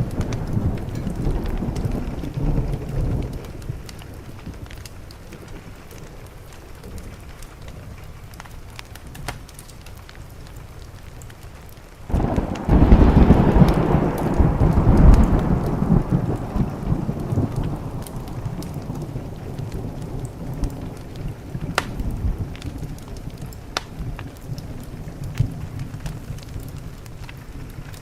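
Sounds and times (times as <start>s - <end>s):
thunderclap rumbling: 0.0s - 9.4s, 12.1s - 28.0s
steady rain: 0.0s - 28.0s.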